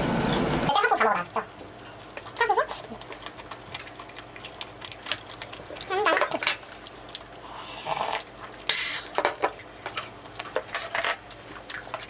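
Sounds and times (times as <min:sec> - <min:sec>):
chewing: 0:00.8 - 0:12.0.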